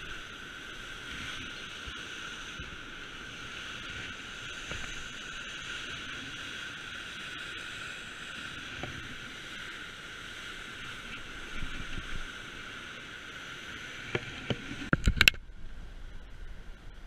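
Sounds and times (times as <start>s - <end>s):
spillway water rushing: 0.0s - 17.0s.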